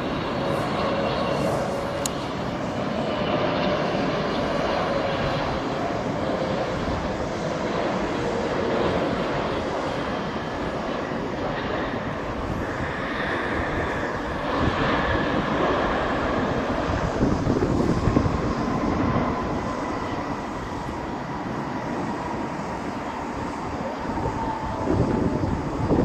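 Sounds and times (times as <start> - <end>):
faint jet engine whine: 0.0 - 26.0
jet engine rushing: 0.0 - 26.0.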